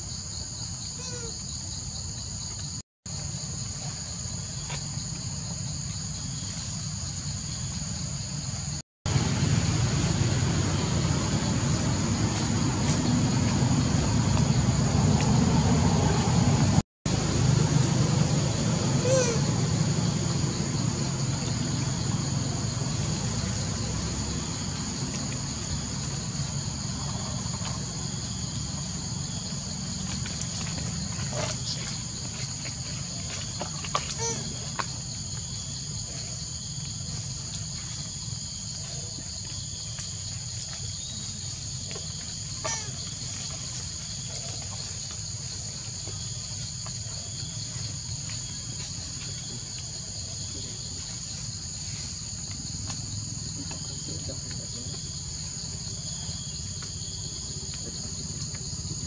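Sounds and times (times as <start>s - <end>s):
insect chorus droning: 0.0s - 59.0s.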